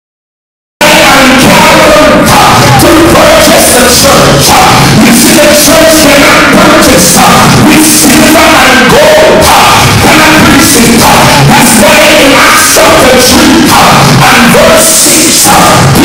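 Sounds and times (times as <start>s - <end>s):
loud amplified music: 0.8s - 16.0s
man singing into microphone: 0.8s - 16.0s.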